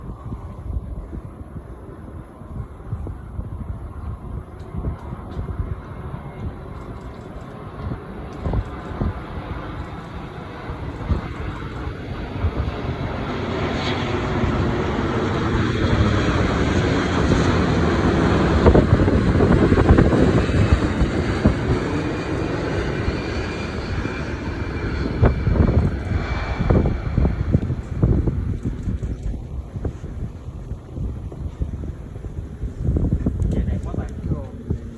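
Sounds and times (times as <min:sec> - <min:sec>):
jet engines roaring: 0:00.0 - 0:34.9
wind buffeting microphone: 0:00.0 - 0:34.9.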